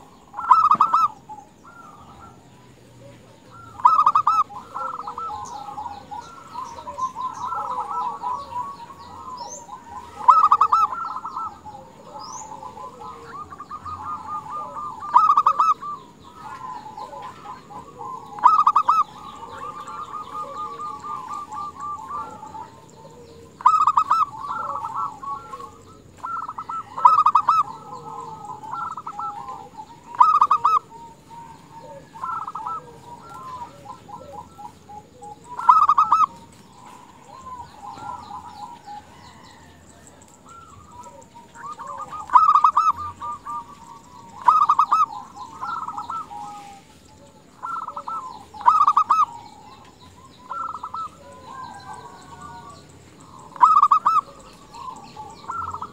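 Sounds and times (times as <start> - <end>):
dove stuttering coos: 0.0 - 55.9.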